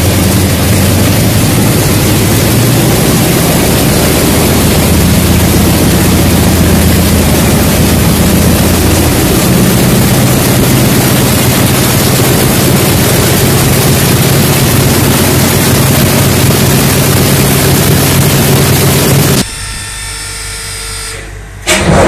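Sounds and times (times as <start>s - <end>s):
aircraft engine and propeller running: 0.0s - 19.9s.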